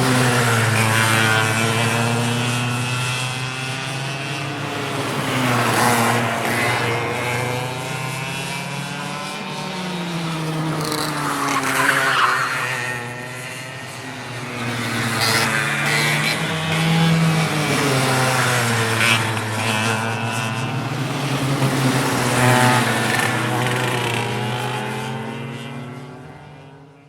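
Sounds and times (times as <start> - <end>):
go-kart engines racing: 0.0 - 27.0.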